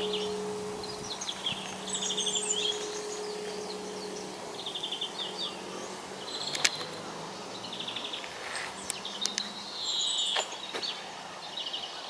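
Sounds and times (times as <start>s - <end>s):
church bell hum: 0.0s - 10.5s
small birds chirping: 0.0s - 12.0s.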